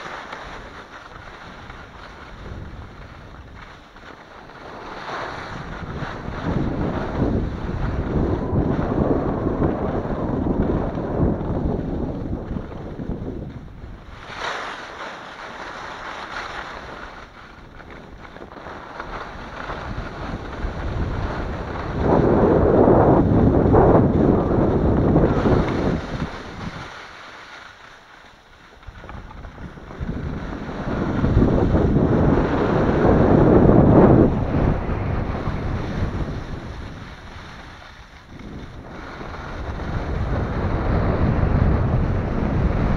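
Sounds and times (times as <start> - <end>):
wind buffeting microphone: 0.0 - 27.4, 28.8 - 42.9
skis scraping over snow: 0.0 - 42.9.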